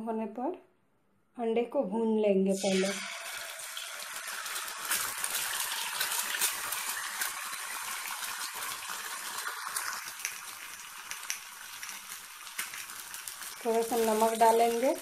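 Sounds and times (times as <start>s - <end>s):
egg sizzling in hot oil: 2.6s - 15.0s.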